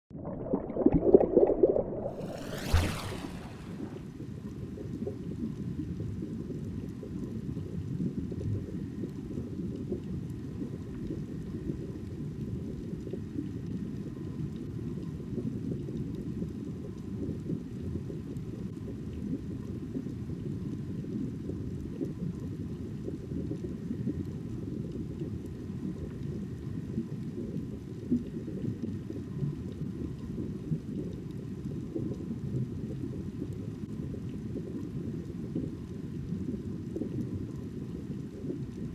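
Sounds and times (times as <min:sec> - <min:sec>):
deep underwater rumble: 0:00.0 - 0:38.9.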